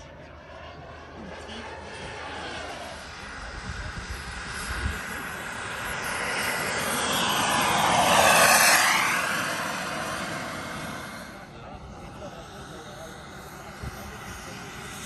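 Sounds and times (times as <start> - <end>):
model aircraft engine passing: 0.0 - 15.0.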